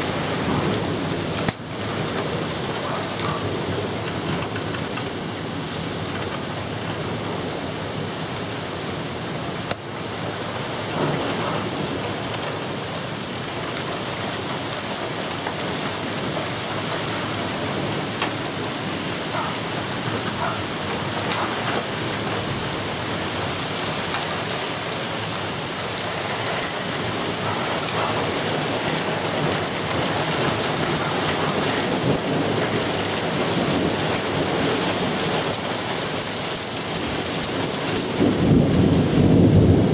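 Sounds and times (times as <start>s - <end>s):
rain falling on pavement: 0.0s - 39.9s.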